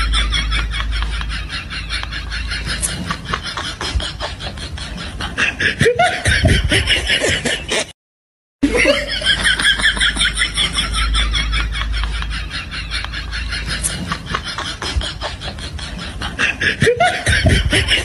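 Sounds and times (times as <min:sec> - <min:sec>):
person laughing: 0:00.0 - 0:07.9, 0:08.6 - 0:18.0.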